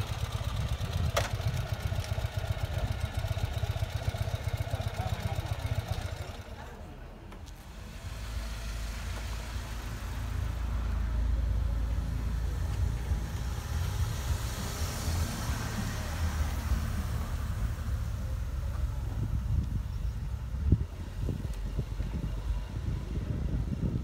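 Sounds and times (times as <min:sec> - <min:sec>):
car engine driving off: 0:00.0 - 0:24.0.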